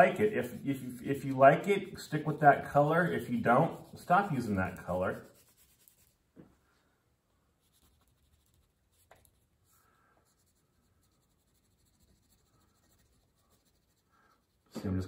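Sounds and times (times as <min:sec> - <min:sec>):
crayon scratching on paper: 0:00.0 - 0:06.2, 0:07.6 - 0:14.8.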